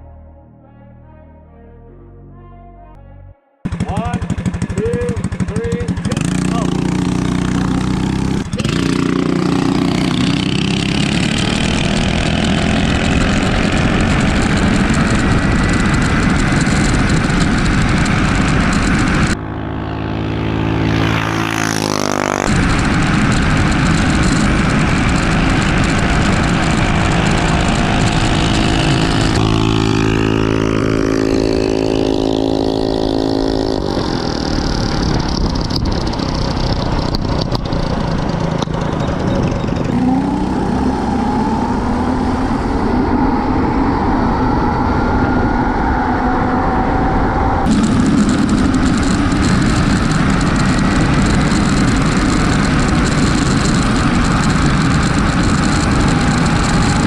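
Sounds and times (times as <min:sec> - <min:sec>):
mini bike engine: 0:03.7 - 0:57.0
wind rush on microphone: 0:03.7 - 0:57.0.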